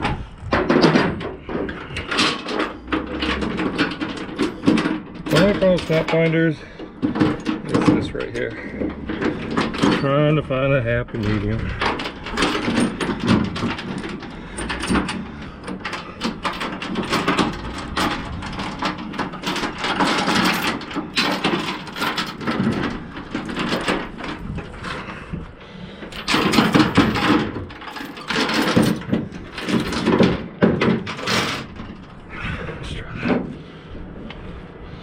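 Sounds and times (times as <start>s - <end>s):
metal clicks and knocks: 0.0s - 10.4s, 11.0s - 32.3s
steel chain clanking and rattling: 0.0s - 32.7s.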